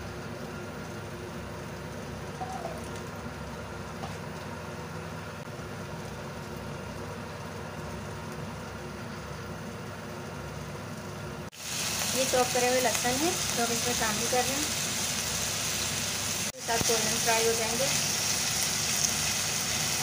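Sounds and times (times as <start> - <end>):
low hum with faint hiss: 0.0 - 20.0.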